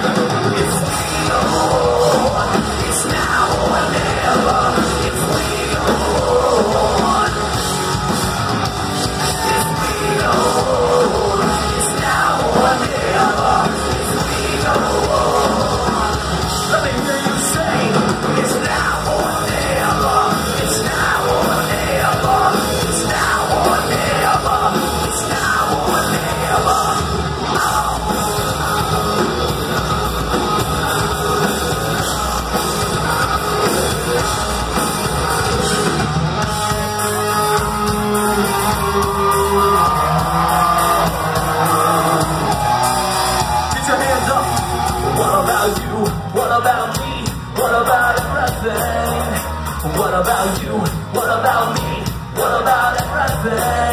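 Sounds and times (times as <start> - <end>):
metal band playing live: 0.0 - 53.9
sung and yelled vocals: 0.0 - 53.9.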